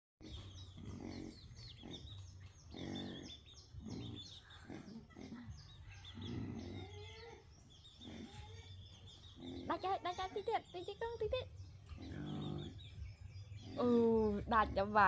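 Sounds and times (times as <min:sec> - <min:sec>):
baby monkey grunting and squealing: 0:00.2 - 0:15.0.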